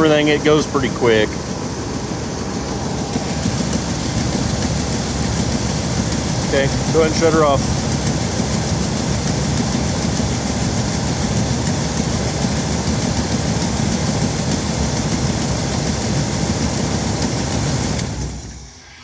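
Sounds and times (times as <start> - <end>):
truck engine idling: 0.0 - 18.8.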